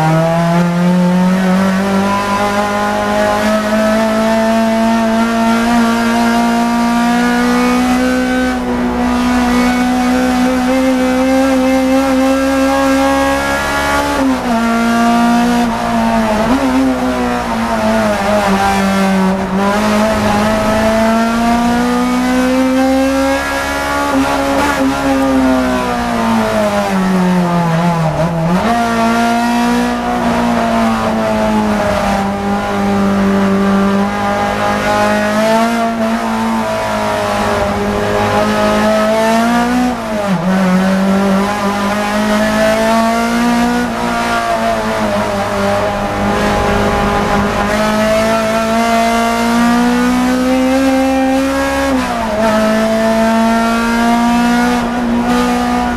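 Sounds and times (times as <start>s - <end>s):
race car engine from inside cabin: 0.0s - 55.9s.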